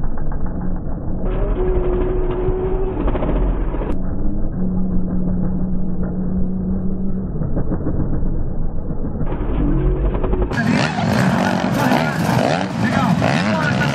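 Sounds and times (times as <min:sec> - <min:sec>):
motocross bike engines running: 0:00.0 - 0:13.9.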